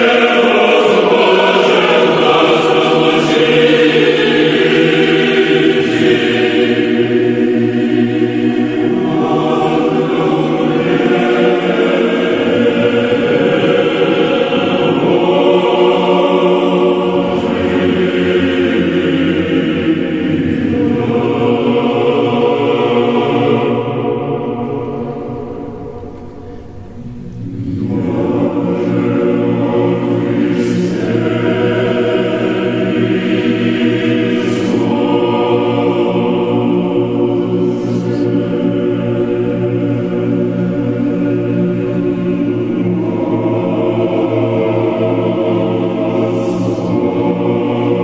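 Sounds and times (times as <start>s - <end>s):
choir singing slow chant: 0.0s - 48.0s.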